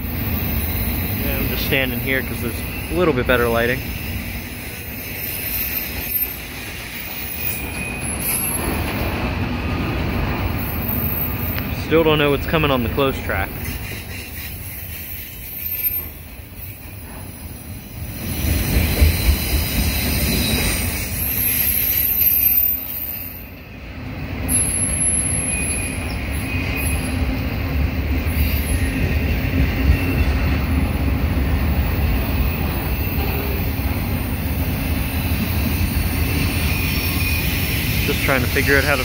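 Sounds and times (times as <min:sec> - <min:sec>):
high wheel squeal: 0:00.0 - 0:09.2, 0:10.0 - 0:31.0, 0:31.6 - 0:39.0
train wheels rumbling on rail: 0:00.0 - 0:39.0.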